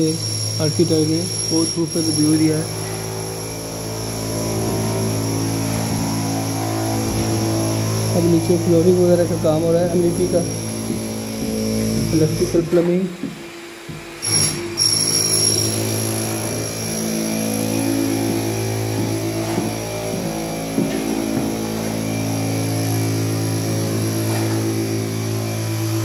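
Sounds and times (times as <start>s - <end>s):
machine motor hum with whine: 0.0s - 26.0s.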